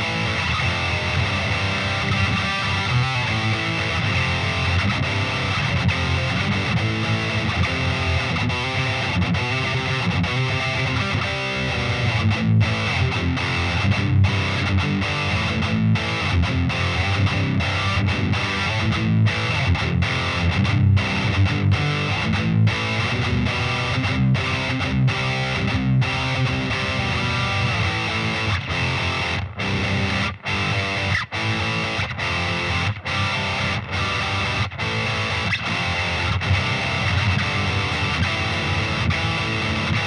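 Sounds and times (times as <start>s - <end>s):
distorted electric guitar riffing: 0.0s - 40.0s.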